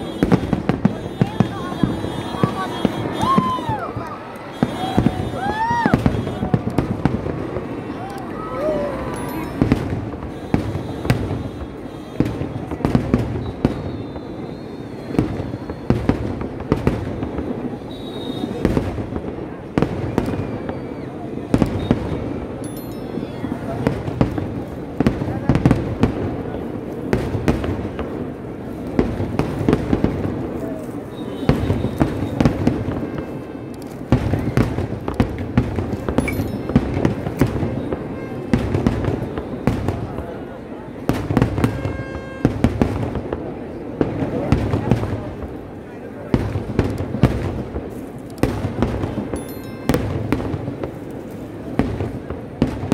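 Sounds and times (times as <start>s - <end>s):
low rumble of explosions: 0.0s - 22.6s, 23.5s - 52.9s
fireworks bangs: 0.0s - 52.9s.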